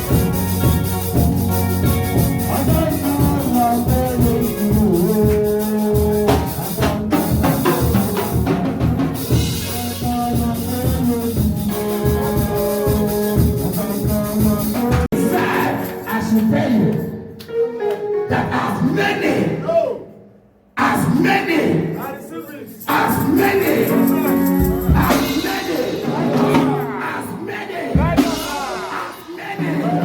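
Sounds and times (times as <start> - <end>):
upbeat church music: 0.0 - 30.0
people singing: 2.4 - 17.2, 18.2 - 20.0, 20.8 - 30.0.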